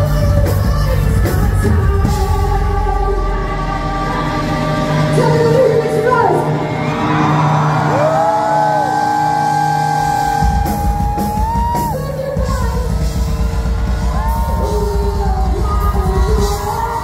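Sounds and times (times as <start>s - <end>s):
bass and drums: 0.0s - 6.9s, 7.7s - 17.0s
live rock band: 0.0s - 17.0s.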